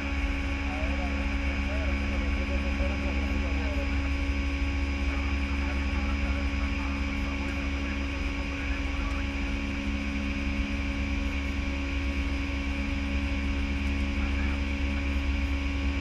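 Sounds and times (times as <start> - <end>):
airflow and engine rumble: 0.0 - 16.0
steady hum tones: 0.0 - 16.0.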